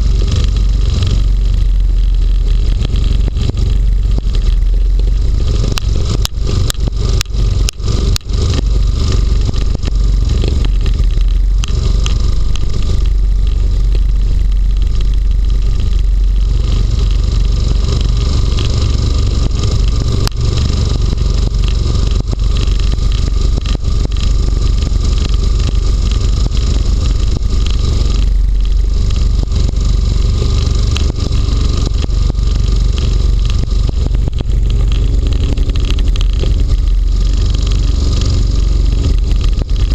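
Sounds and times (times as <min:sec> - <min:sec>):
hovercraft engine and fan rush: 0:00.0 - 0:39.9.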